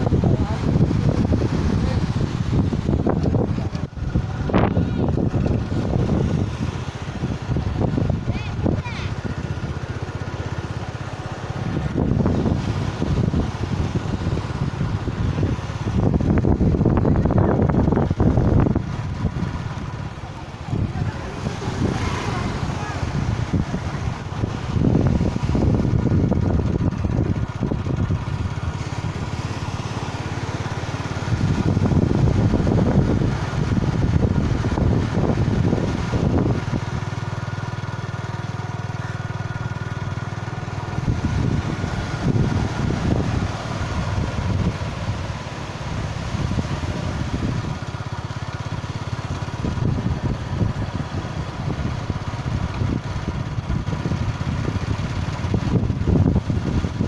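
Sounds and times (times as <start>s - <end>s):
motorbike engine running: 0.0s - 57.0s.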